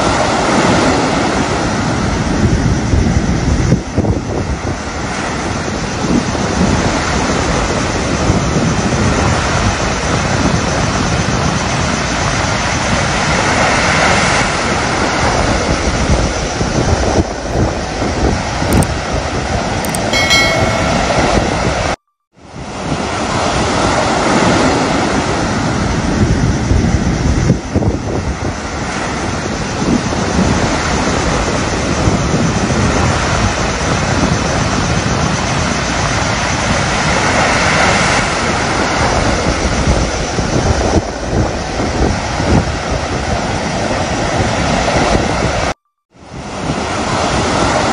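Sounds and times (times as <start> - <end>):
wind buffeting microphone: 0.0 - 22.0, 24.3 - 45.7.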